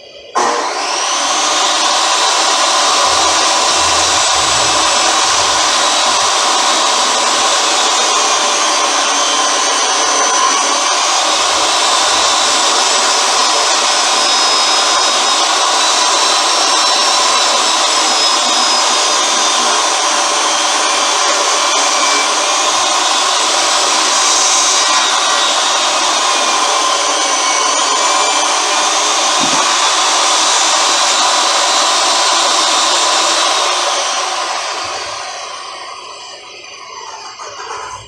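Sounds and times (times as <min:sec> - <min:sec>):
power tool motor running: 0:00.4 - 0:38.0.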